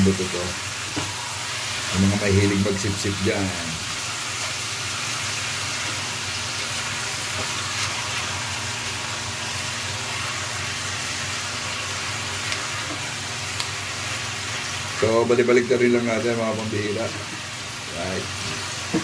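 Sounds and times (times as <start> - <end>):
chicken wings sizzling in pot: 0.0 - 19.0.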